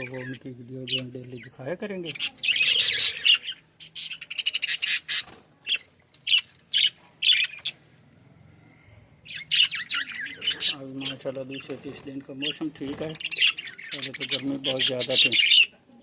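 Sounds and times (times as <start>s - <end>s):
budgerigars chirping and squawking: 0.0s - 8.2s, 9.2s - 15.9s.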